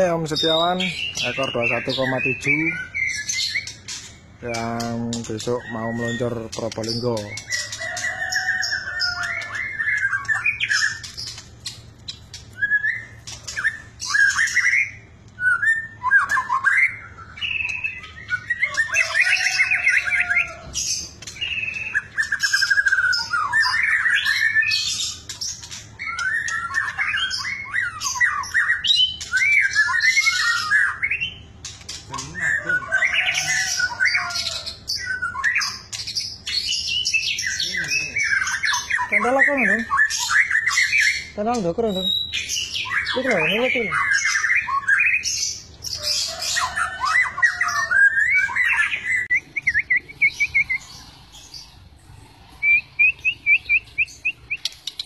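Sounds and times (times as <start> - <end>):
bird singing varied phrases: 0.0 - 55.0.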